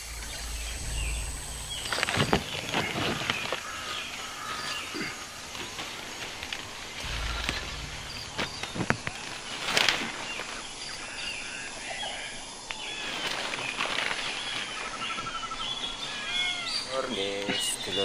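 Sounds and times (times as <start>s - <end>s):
birds chirping and trilling: 0.0s - 18.0s
leaves and branches rustling: 0.0s - 18.0s.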